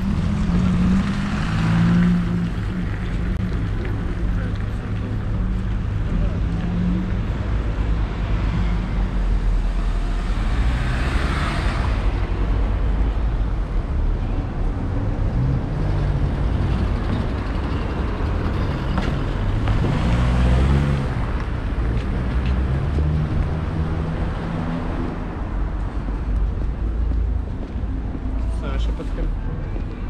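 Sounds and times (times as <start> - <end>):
cars passing: 0.0 - 30.0.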